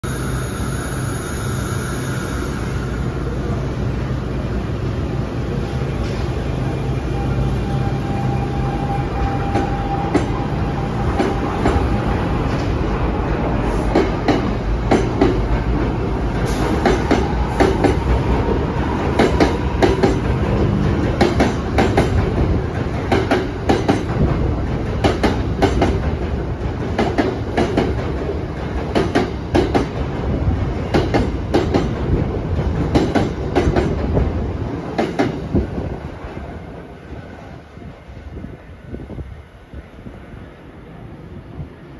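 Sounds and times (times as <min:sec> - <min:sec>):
electric train rolling past: 0:00.0 - 0:41.9.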